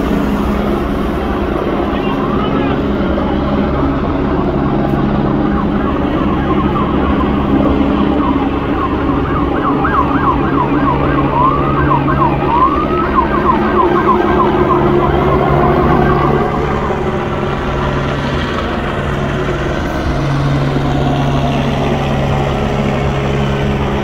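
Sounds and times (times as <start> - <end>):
low engine drone: 0.0 - 24.0
police sirens wailing and yelping: 0.0 - 24.0.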